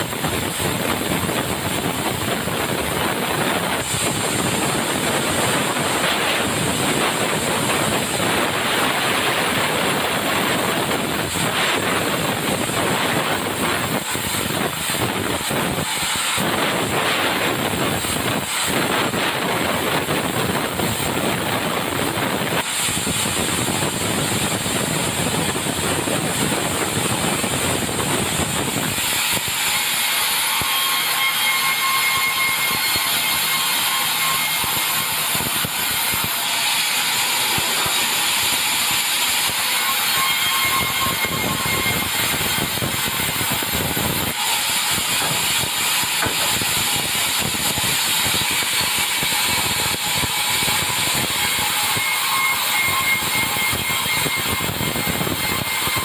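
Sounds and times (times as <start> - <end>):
sawmill sawing timber: 0.0 - 56.0.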